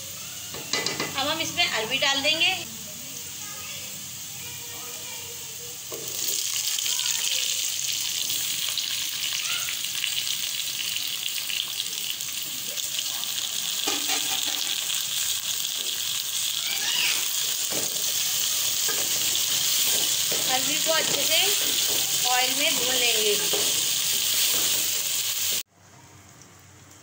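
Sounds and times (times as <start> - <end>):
taro sizzling in hot oil: 0.0 - 25.7.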